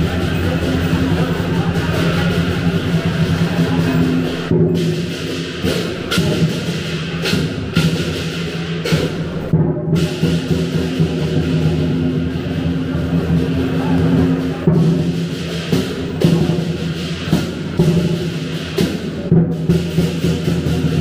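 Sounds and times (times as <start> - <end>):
cymbal crashes: 0.0 - 21.0
large drum beating: 0.0 - 21.0.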